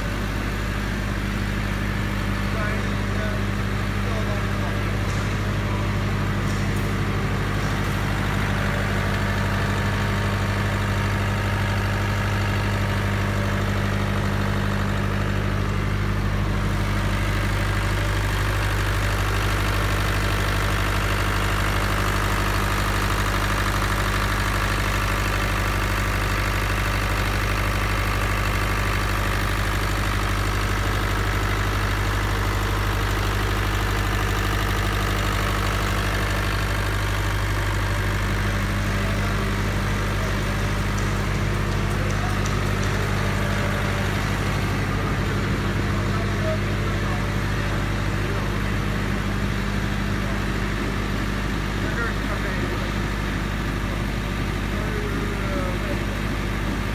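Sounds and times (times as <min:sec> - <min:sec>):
diesel generator running: 0:00.0 - 0:56.9.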